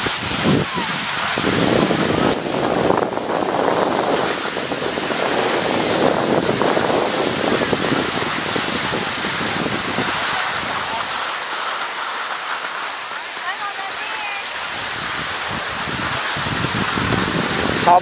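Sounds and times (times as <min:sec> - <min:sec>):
skis scraping over snow: 0:00.0 - 0:18.0.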